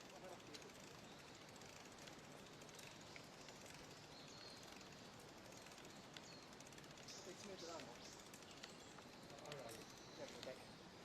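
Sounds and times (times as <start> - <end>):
faint ticks: 0.0 - 10.6
faint outdoor hiss: 0.0 - 11.0.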